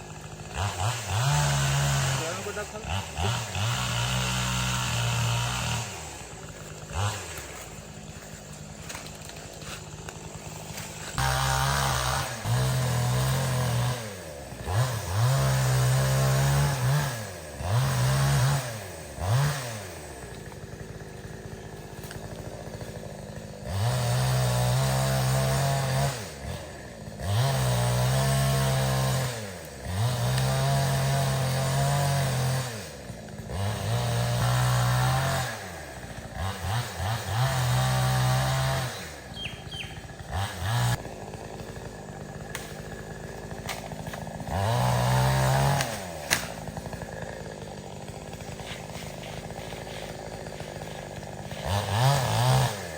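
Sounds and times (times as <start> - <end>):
chainsaw revving and idling: 0.0 - 52.9.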